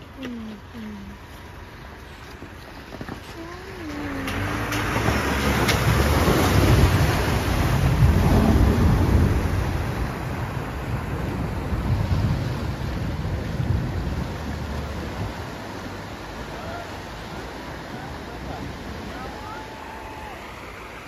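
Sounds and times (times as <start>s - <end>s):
water churning and splashing: 0.0s - 21.0s
vehicle engine pulling: 1.2s - 21.0s.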